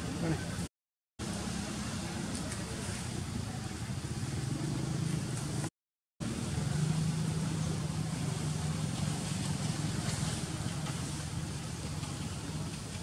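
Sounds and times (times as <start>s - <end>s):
low engine hum: 0.0s - 13.0s
outdoor background noise: 0.0s - 13.0s.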